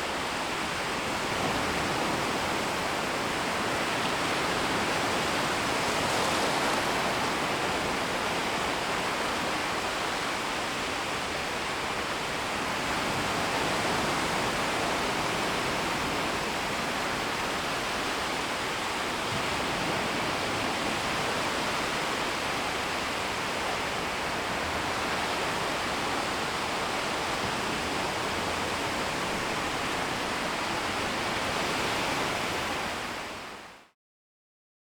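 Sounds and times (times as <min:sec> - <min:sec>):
sea waves washing ashore: 0:00.0 - 0:33.8.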